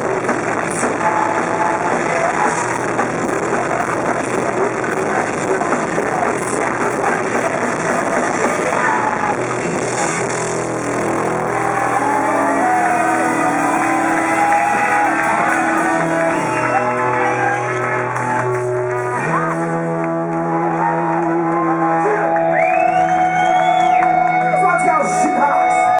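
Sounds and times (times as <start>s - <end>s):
bass guitar: 0.0s - 25.9s
distorted electric guitars: 0.0s - 25.9s
drums: 0.0s - 25.9s
punk rock band playing live: 0.0s - 25.9s.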